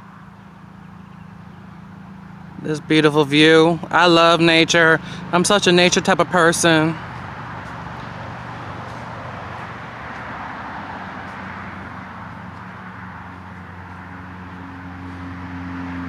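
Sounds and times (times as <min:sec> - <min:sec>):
highway traffic rushing: 0:00.0 - 0:16.0.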